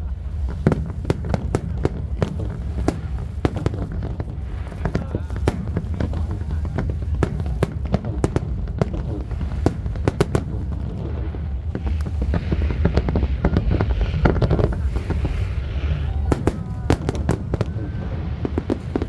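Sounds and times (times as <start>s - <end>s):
fireworks bangs and cracks: 0.0s - 19.0s
low rumble: 0.0s - 19.0s.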